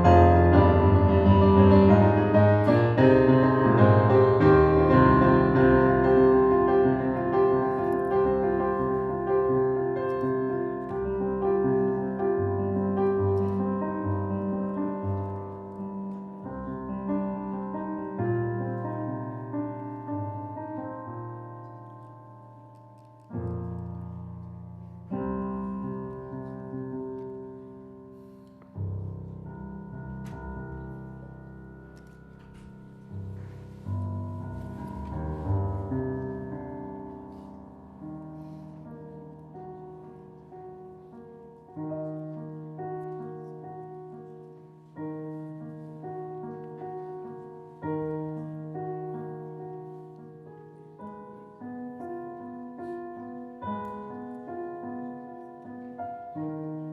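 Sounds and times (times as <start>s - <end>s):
piano chords: 0.0s - 56.9s.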